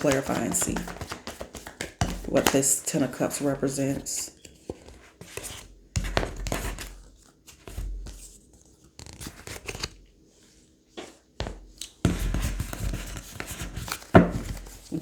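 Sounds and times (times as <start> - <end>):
cards being shuffled: 0.0 - 10.0, 11.0 - 15.0.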